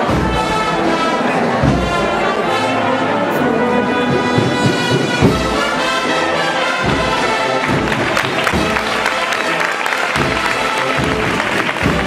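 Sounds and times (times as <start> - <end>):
brass band playing a march: 0.0 - 12.0.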